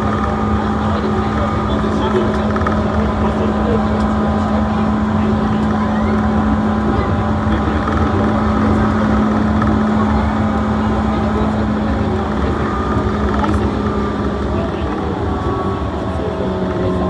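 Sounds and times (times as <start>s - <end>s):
electric train hum: 0.0s - 17.0s
wheels rumbling on track: 0.0s - 17.0s.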